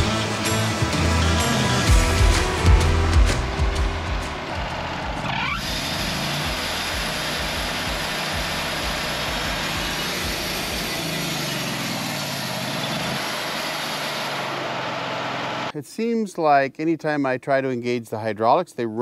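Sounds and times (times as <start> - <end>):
sawmill engine running: 0.0 - 15.8.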